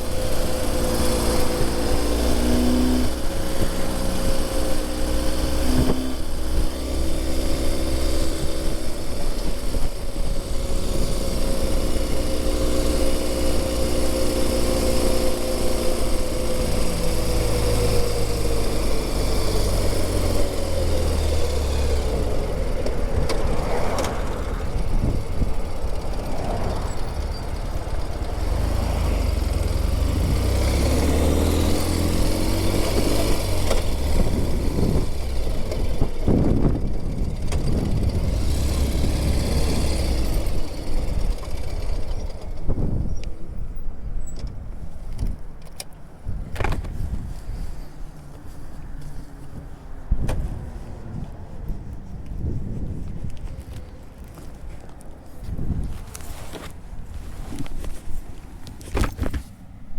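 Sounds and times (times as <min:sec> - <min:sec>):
motorcycle engine rumble and whine: 0:00.0 - 0:59.9.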